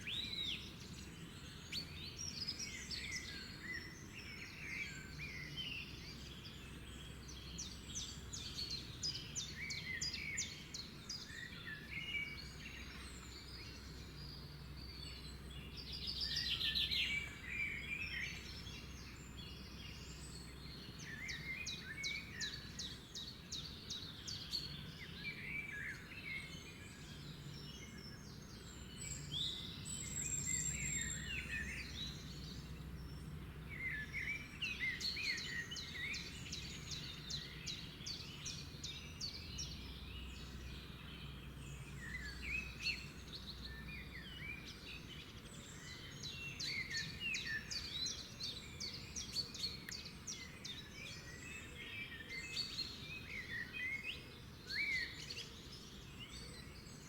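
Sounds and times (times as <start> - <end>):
wild birds singing and calling: 0.0 - 57.0.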